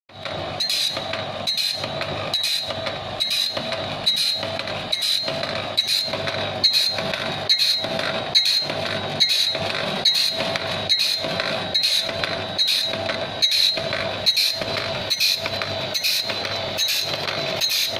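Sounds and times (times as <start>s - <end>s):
saw-sharpening machine running: 0.1s - 17.9s
high-pitched ring: 0.6s - 7.8s, 8.4s - 15.4s, 16.0s - 17.9s.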